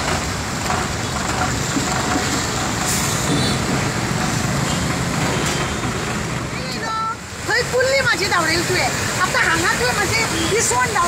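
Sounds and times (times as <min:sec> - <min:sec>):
scooters and cars passing: 0:00.0 - 0:11.0.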